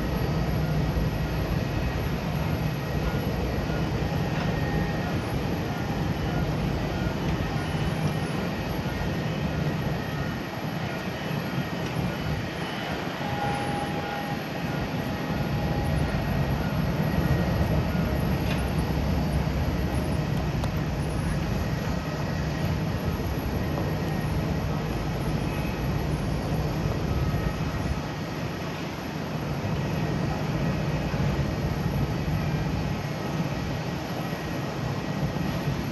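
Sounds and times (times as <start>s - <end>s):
faint high whine: 0.0s - 35.9s
jet engine rumble: 0.0s - 35.9s.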